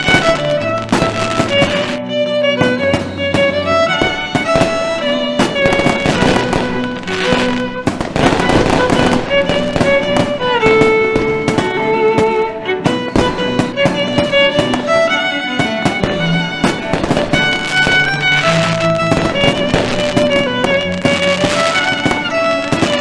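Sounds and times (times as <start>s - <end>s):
fireworks bangs and pops: 0.0s - 2.0s, 2.7s - 14.9s, 15.8s - 23.0s
violin melody music: 0.0s - 23.0s.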